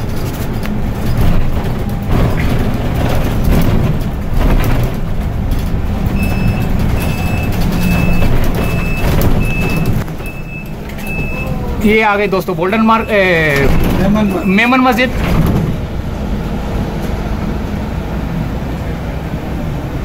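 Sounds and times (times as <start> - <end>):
motorcycle road noise: 0.0 - 20.0.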